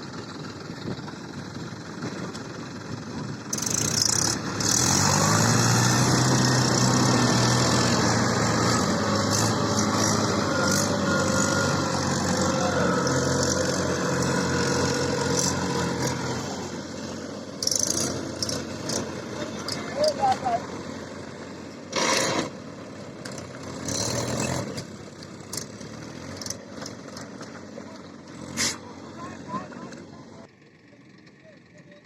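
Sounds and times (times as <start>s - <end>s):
diesel tractor engine revving: 0.0s - 31.8s.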